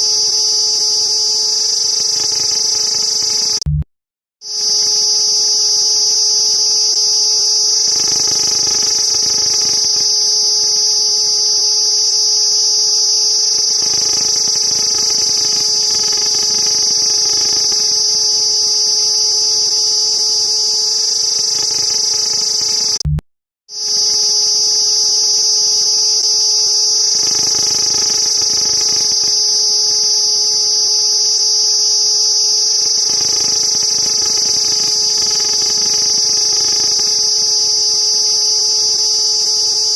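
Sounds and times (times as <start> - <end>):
cicada buzzing: 0.0 - 3.6, 4.5 - 23.0, 23.7 - 39.2.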